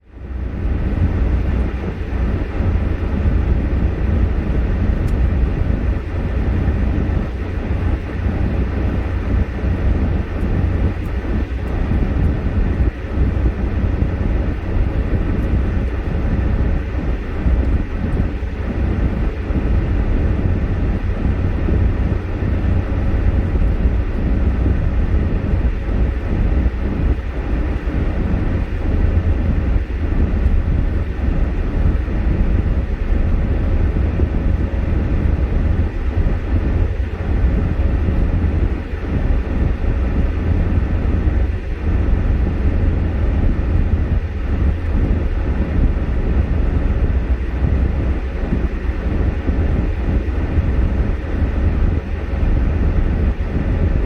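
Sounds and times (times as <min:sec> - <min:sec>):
car engine and road rumble: 0:00.0 - 0:54.0
faint steady hum: 0:00.0 - 0:54.0.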